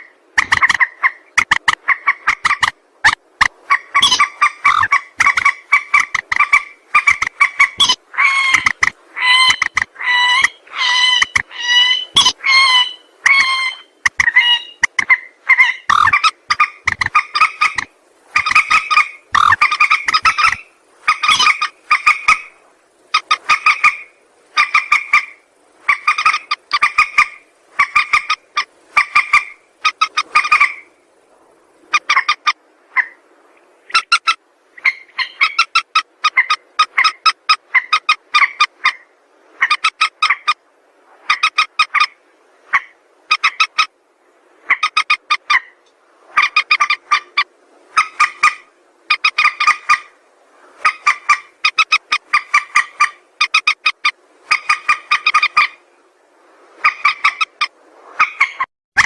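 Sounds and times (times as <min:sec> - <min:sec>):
bird calling in pulsed bursts: 0:00.0 - 0:33.2, 0:33.8 - 0:40.6, 0:41.2 - 0:44.0, 0:44.6 - 0:50.2, 0:50.8 - 0:55.9, 0:56.8 - 0:58.7.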